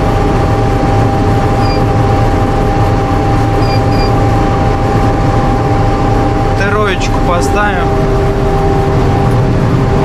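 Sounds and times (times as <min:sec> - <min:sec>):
combine harvester drone: 0:00.0 - 0:10.0
high whine: 0:00.0 - 0:10.0.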